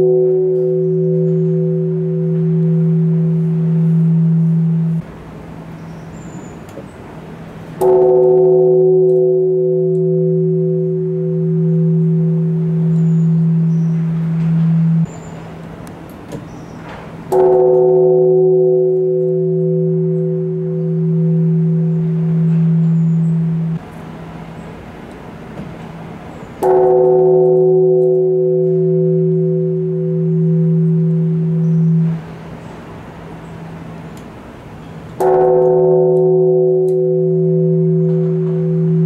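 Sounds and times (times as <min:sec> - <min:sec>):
large temple bell ringing: 0:00.0 - 0:06.1, 0:07.7 - 0:15.9, 0:16.7 - 0:24.6, 0:25.9 - 0:33.9, 0:34.8 - 0:39.0.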